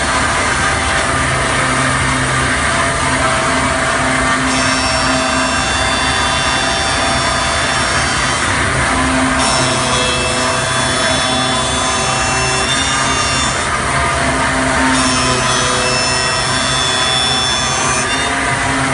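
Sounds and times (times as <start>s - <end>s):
router spindle whining: 0.0s - 18.9s
wood cutting noise: 0.0s - 18.9s.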